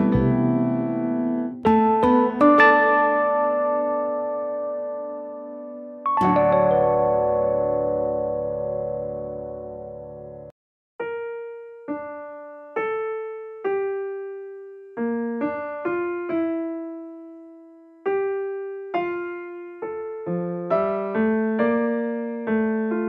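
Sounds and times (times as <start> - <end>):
slow solo piano melody: 0.0 - 23.0.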